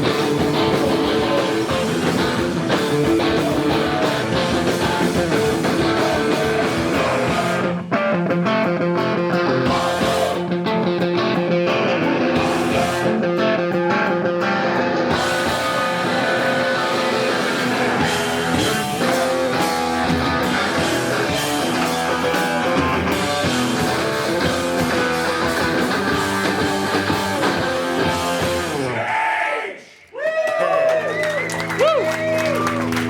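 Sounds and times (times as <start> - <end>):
live rock band playing: 0.0 - 29.0, 31.2 - 33.0.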